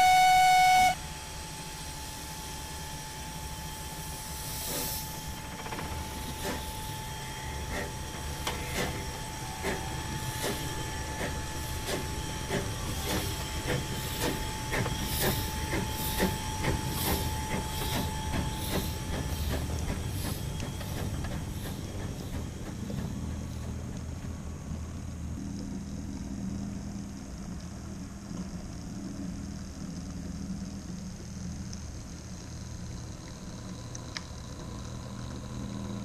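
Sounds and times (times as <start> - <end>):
low rumble of model train: 0.0 - 36.0
thin steady whine: 0.0 - 36.0.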